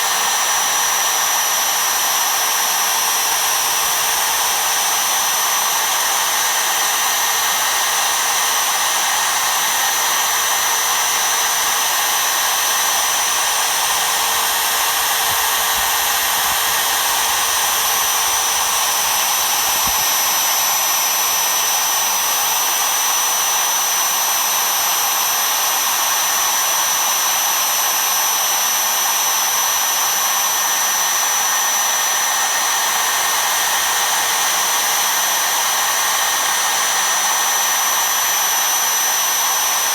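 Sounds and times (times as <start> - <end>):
router spindle motor whine: 0.0 - 39.9.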